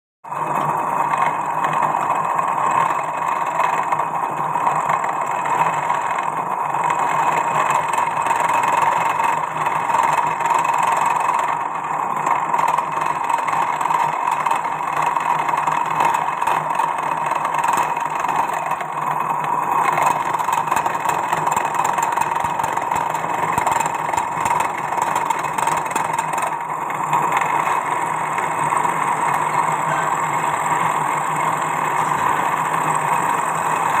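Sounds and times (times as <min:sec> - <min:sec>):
machine cutting noise: 0:00.3 - 0:34.0
milling machine hum: 0:00.3 - 0:34.0.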